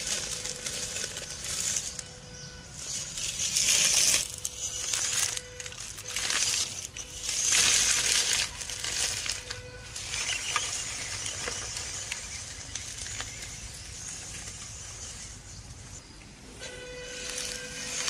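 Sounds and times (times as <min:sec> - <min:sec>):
dry leaves crunching under tyres: 0:00.0 - 0:18.0.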